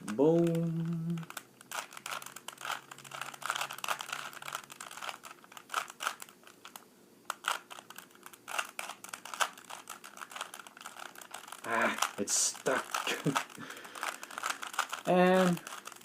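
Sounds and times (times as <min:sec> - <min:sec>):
puzzle cube clicking: 0:00.0 - 0:16.0.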